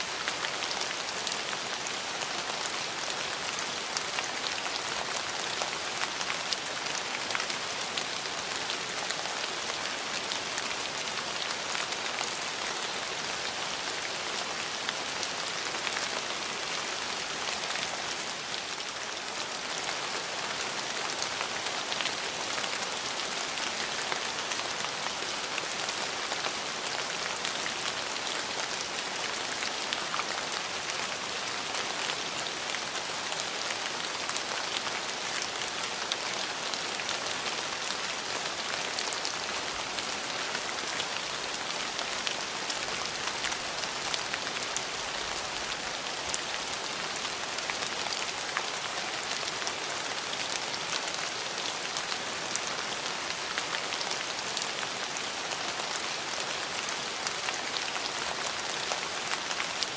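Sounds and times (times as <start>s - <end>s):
rain on a hard surface: 0.0s - 59.9s.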